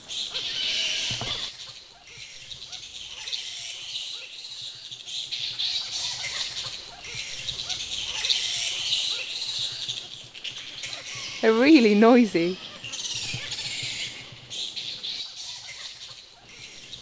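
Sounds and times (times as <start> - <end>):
fruit bats squeaking and chirping: 0.1 - 17.0.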